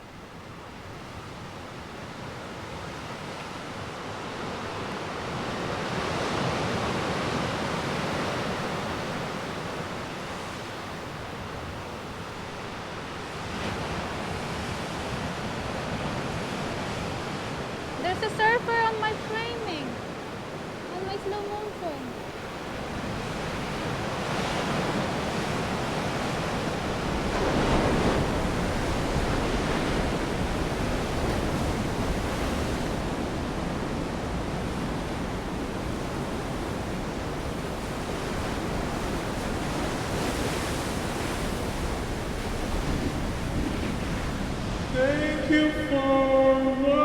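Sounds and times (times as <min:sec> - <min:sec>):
waves breaking: 0:00.0 - 0:47.0.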